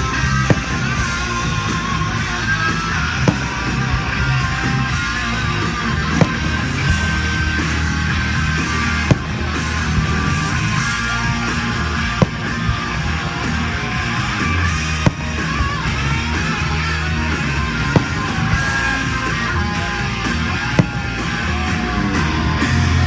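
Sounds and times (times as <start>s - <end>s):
fireworks bursting: 0.0s - 22.4s.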